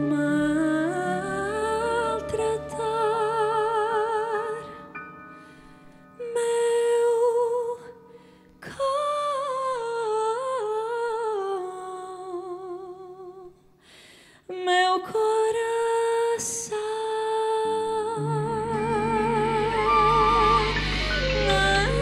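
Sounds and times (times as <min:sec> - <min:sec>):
woman singing wordless vocal: 0:00.0 - 0:05.0, 0:06.2 - 0:13.7, 0:14.4 - 0:22.0.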